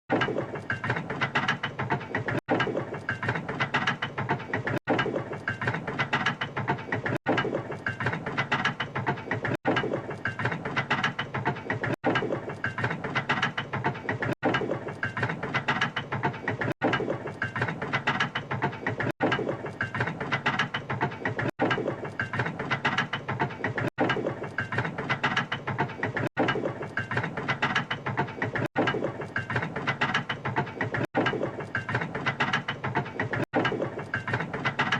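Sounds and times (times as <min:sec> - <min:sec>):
turntable gears clattering: 0:00.1 - 0:34.9.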